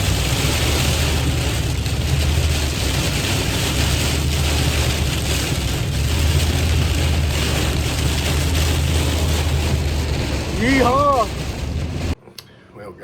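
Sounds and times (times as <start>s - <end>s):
engine and road noise: 0.0s - 12.2s
heavy rain on car: 0.0s - 12.2s.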